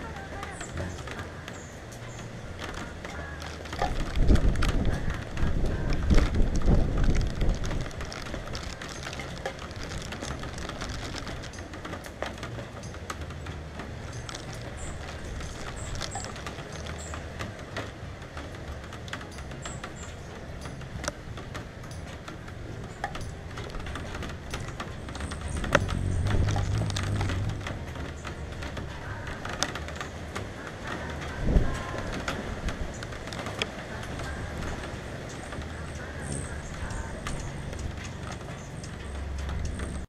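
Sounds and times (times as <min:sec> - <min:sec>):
gusting wind rumble: 0:00.0 - 0:40.0
raindrops tapping: 0:00.0 - 0:40.0
steady rain: 0:00.0 - 0:40.0.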